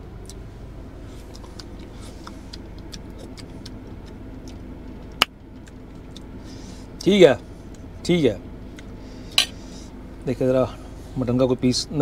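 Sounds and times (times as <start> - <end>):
vehicle cabin hum: 0.0 - 12.0.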